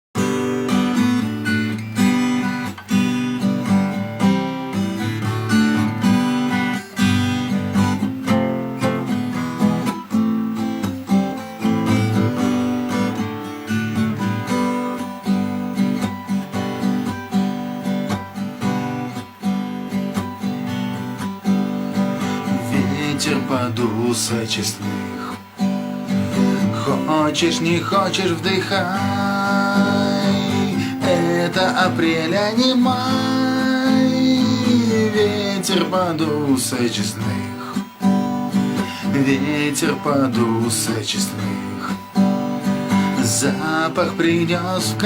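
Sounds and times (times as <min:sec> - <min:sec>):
acoustic guitar chords: 0:00.1 - 0:45.0.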